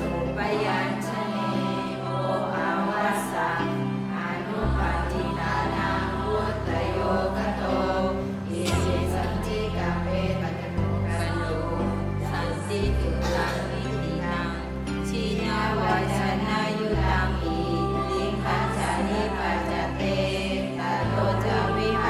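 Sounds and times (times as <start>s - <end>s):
slow music with choir voices: 0.0s - 22.0s.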